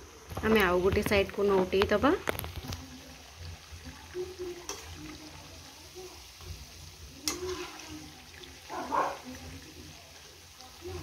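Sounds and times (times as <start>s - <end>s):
food sizzling in hot oil: 0.0s - 11.0s
ladle stirring in oil: 0.4s - 11.0s.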